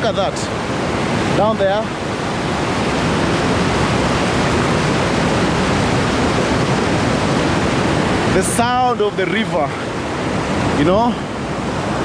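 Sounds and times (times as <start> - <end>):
large waterfall thundering: 0.0 - 12.0.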